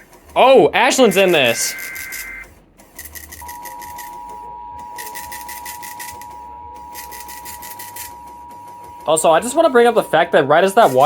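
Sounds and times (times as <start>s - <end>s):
steady alarm tone: 0.0s - 2.5s, 3.4s - 11.0s
pulsing digital data signal: 0.0s - 11.0s.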